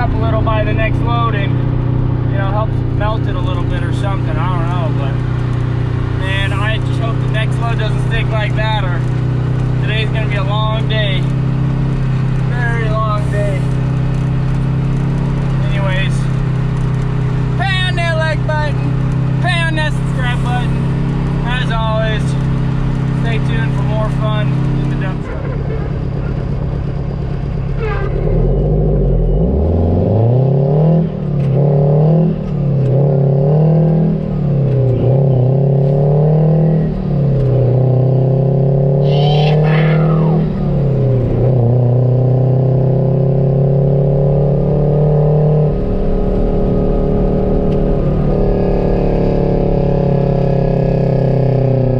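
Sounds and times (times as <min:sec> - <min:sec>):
truck diesel engine accelerating: 0:00.0 - 0:51.9.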